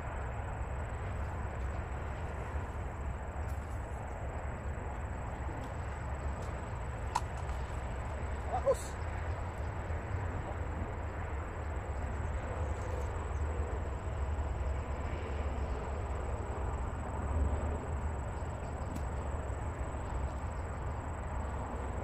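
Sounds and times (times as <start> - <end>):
outdoor rumble with hiss: 0.0 - 22.0.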